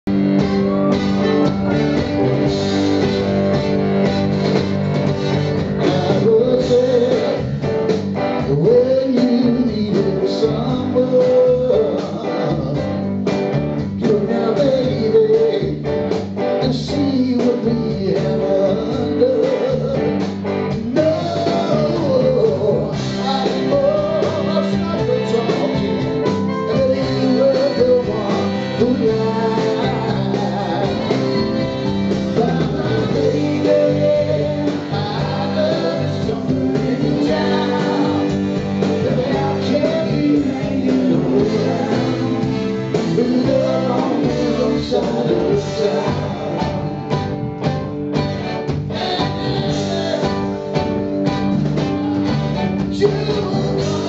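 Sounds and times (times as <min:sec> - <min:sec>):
live rock band: 0:00.0 - 0:54.0.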